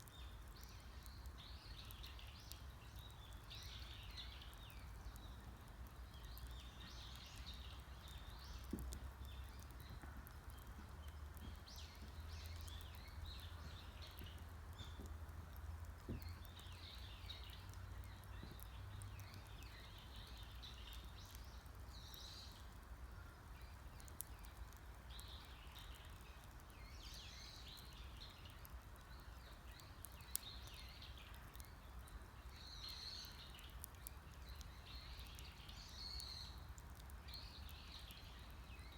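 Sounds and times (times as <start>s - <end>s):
birds chirping: 0.0s - 38.9s
campfire crackling: 0.0s - 38.9s.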